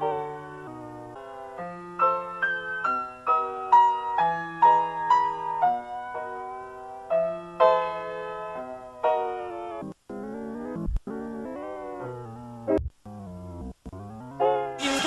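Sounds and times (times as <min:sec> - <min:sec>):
slow keyboard melody: 0:00.0 - 0:15.0.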